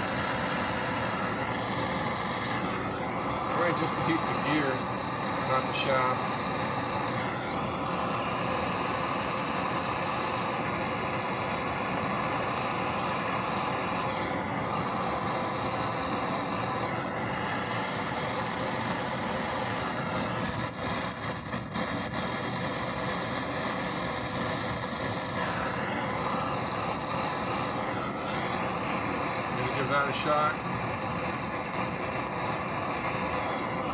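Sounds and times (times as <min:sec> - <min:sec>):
gas torch flame hissing: 0:00.0 - 0:33.9.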